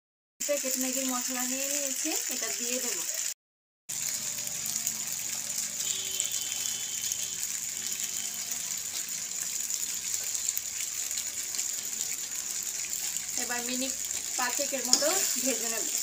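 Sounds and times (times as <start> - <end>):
pasta sizzling in oil: 0.4 - 16.0.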